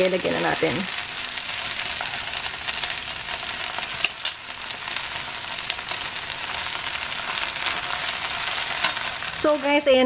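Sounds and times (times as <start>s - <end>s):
food sizzling in frying pan: 0.0s - 10.0s.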